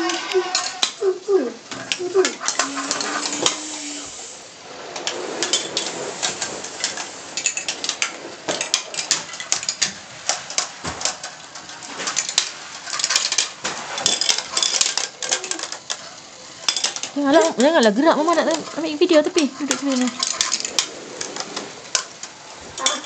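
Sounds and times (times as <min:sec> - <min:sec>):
marbles clattering through plastic track: 0:00.0 - 0:23.0.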